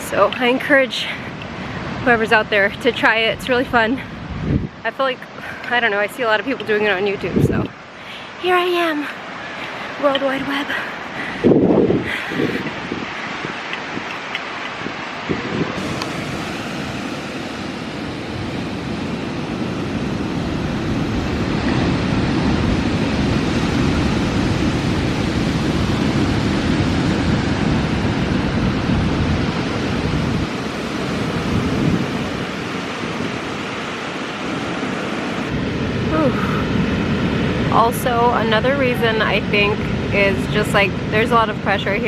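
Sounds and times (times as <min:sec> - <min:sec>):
wind on microphone: 0:00.0 - 0:08.6, 0:09.3 - 0:42.0
ocean surf: 0:00.0 - 0:42.0.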